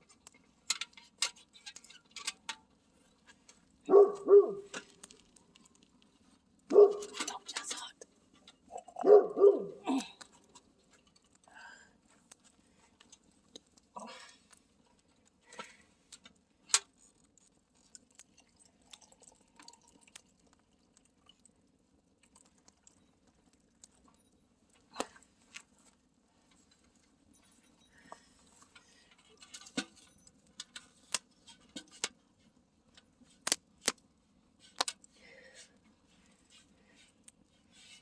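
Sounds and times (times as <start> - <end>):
campfire crackling and popping: 0.0 - 7.3, 10.1 - 27.1, 28.1 - 37.7.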